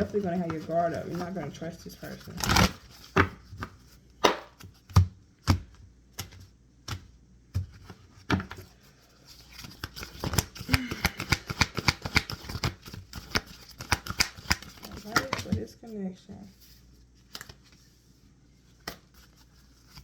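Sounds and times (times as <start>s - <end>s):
cards shuffling and clicking: 0.0s - 8.7s, 9.4s - 15.7s, 17.2s - 17.8s, 18.8s - 20.0s.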